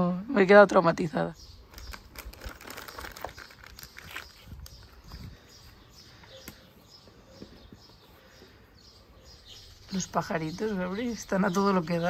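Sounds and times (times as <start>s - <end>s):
birds singing faintly: 0.0s - 12.0s.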